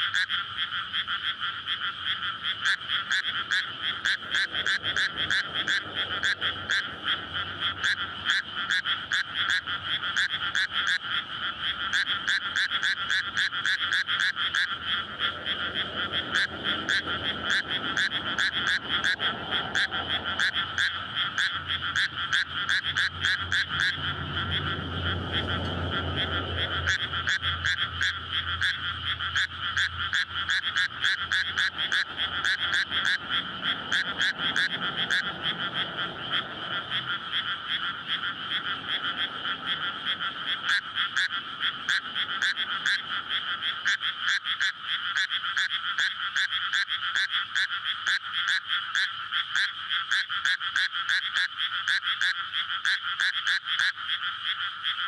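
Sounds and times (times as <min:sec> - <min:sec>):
frog chorus: 0:00.0 - 0:55.0
low rumble of road traffic: 0:00.0 - 0:55.0.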